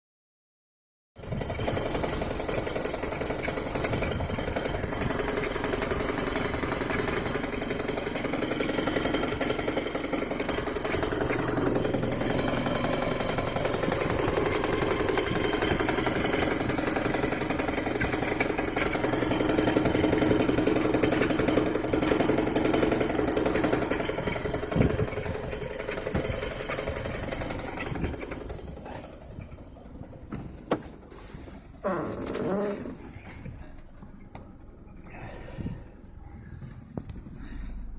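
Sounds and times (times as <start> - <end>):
car engine idling with knock: 1.2 - 35.9.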